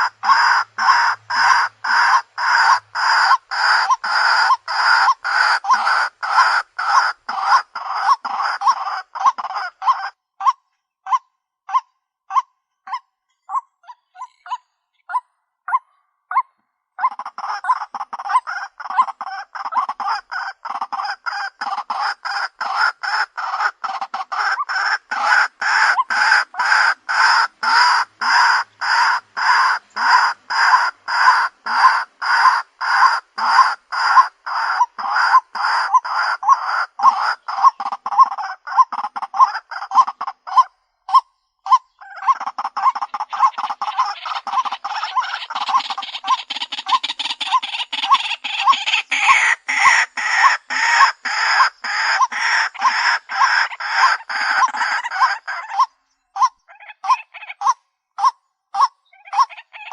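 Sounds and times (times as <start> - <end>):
waterhen calling harsh notes: 0.0 - 14.7, 17.0 - 59.9.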